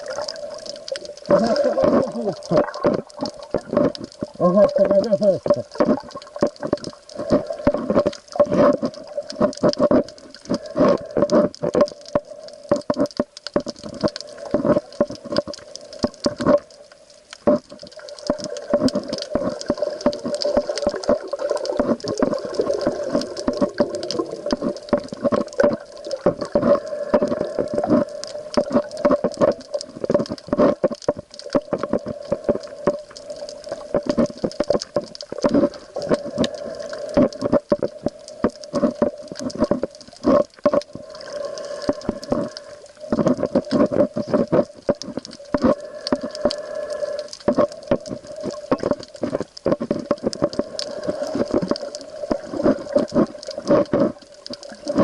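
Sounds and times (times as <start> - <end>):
sea water sloshing and bubbling: 0.0 - 55.0.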